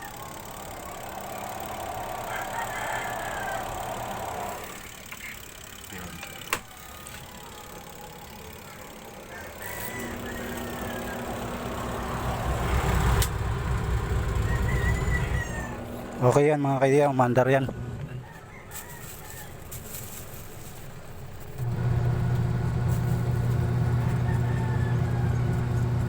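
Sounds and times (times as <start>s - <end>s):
spin dryer motor humming: 0.0s - 18.2s, 20.0s - 26.0s.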